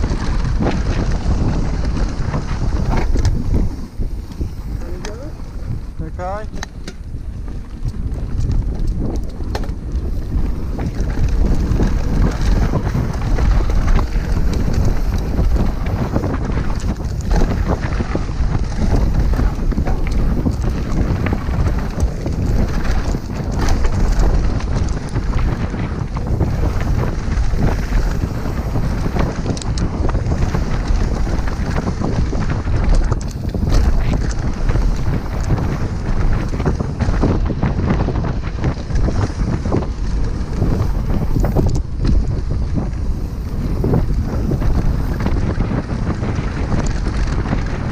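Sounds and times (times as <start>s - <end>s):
bike knocks and rattles: 0.0s - 47.9s
bike tyres rolling on dirt: 0.0s - 47.9s
wind buffeting microphone: 0.0s - 47.9s.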